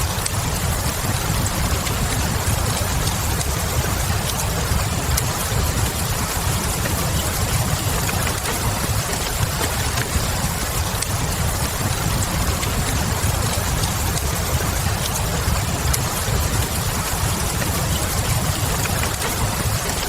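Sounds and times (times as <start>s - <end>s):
faint fire crackles: 0.0s - 20.0s
steady rain hiss: 0.0s - 20.0s.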